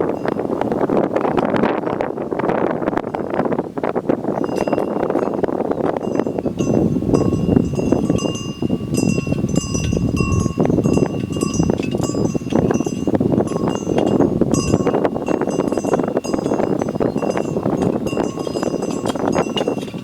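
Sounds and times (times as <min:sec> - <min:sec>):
metal animal bells clanking: 0:00.1 - 0:00.6, 0:04.3 - 0:20.0.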